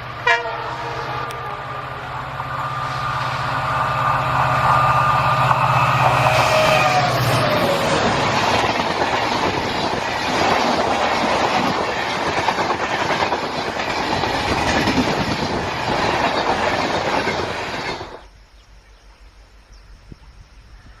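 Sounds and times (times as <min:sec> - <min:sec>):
train wheels rattling on tracks: 0:00.0 - 0:18.4.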